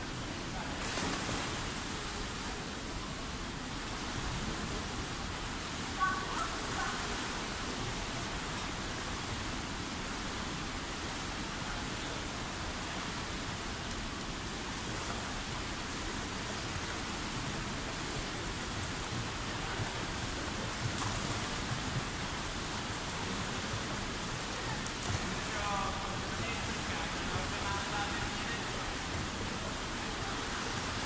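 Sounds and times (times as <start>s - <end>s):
swimmers splashing in echoing pool: 0.0s - 13.6s, 14.6s - 31.0s.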